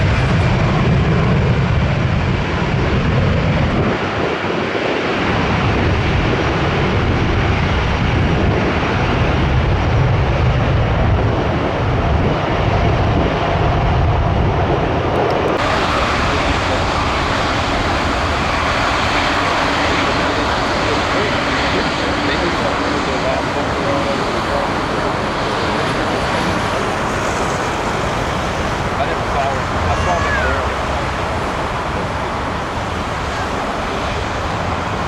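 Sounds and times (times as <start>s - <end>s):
airliner jet engine noise: 0.0s - 35.0s
wind on microphone: 0.0s - 35.0s.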